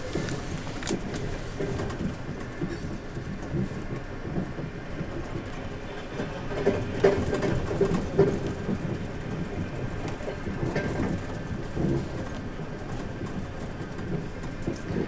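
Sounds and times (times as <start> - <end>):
train knocks and clacks: 0.0 - 15.0
train wheels rumbling: 0.0 - 15.0.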